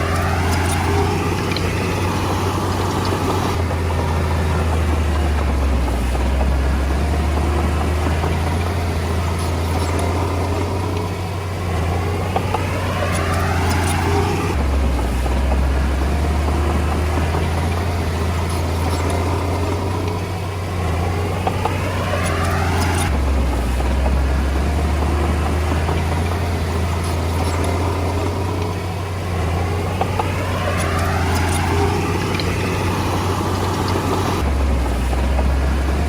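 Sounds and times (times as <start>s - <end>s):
bulldozer diesel engine droning: 0.0s - 36.0s.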